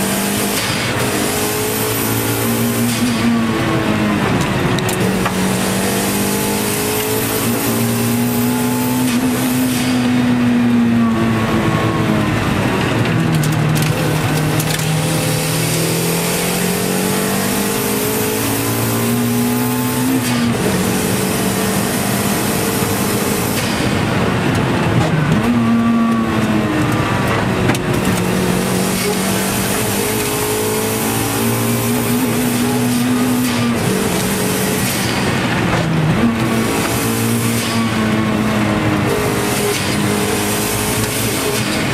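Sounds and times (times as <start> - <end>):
car engine revving under full throttle: 0.0 - 41.9.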